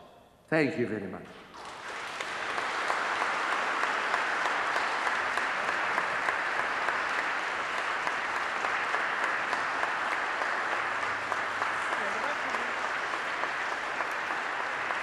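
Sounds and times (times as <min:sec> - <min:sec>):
audience applauding: 0:01.4 - 0:15.0.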